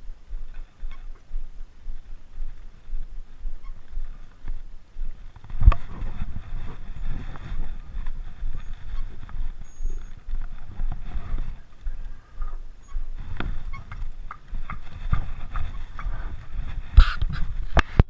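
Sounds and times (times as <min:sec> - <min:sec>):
low gusty rumble: 0:00.0 - 0:18.0.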